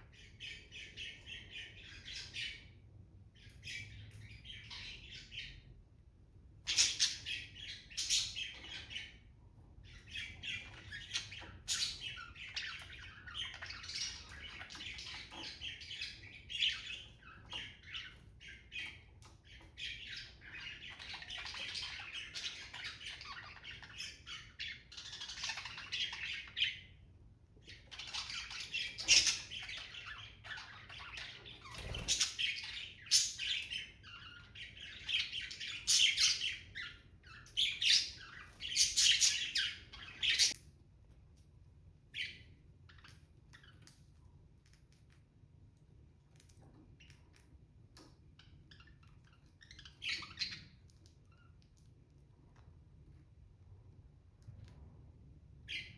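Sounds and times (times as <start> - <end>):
budgies chattering and squawking: 0.0 - 5.9, 6.5 - 40.6, 46.4 - 52.0, 55.6 - 55.9.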